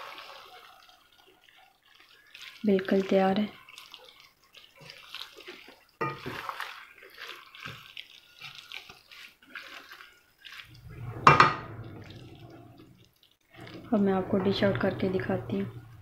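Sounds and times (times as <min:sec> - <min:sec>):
wooden spatula stirring in pot: 0:00.0 - 0:16.0.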